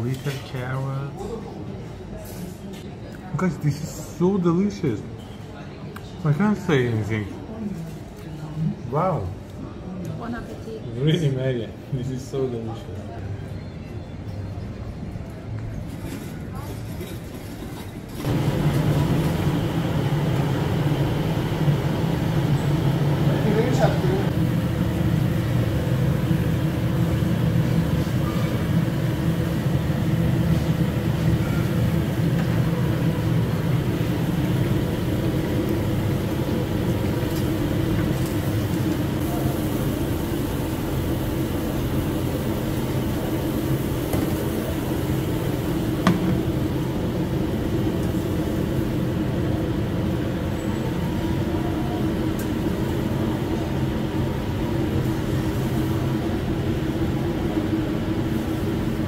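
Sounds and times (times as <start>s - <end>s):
low mechanical drone of ventilation: 0.0s - 59.0s.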